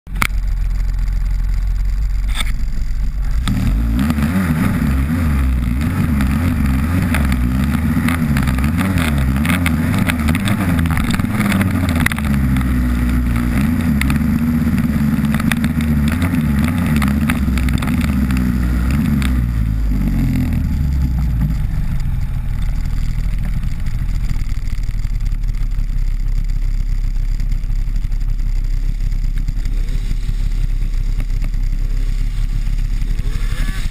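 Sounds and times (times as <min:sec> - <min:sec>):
snowmobile engine running: 0:00.1 - 0:33.9.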